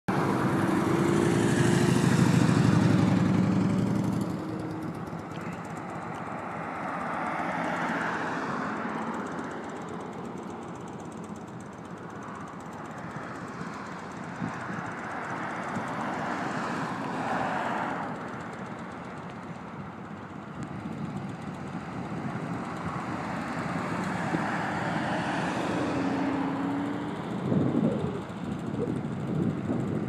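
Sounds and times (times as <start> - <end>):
car passing: 0.1 - 9.9, 12.2 - 20.3, 20.9 - 29.2
motorcycle engine running: 0.1 - 17.2, 17.8 - 30.0.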